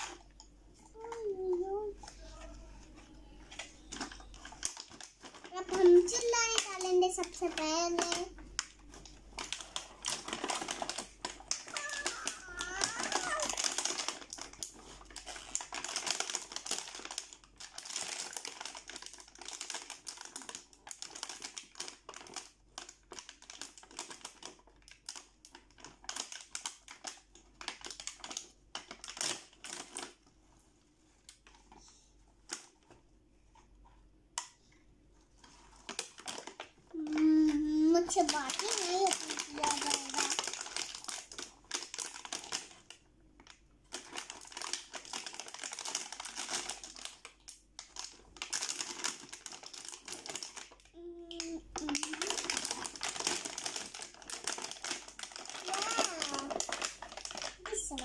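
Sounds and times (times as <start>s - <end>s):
plastic packaging crinkling: 0.0s - 33.0s, 35.2s - 58.0s.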